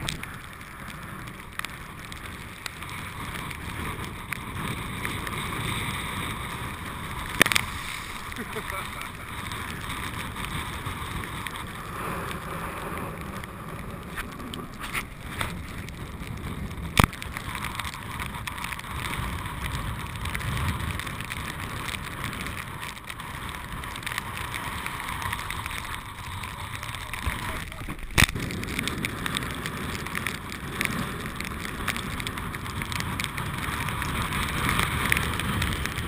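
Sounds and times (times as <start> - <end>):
wind buffeting camera: 0.0 - 36.0.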